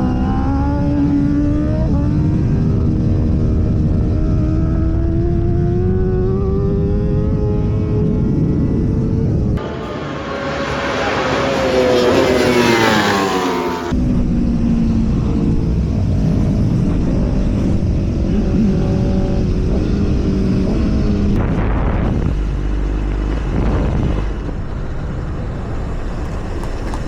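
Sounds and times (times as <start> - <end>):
racing motorcycle engine: 0.0 - 27.0.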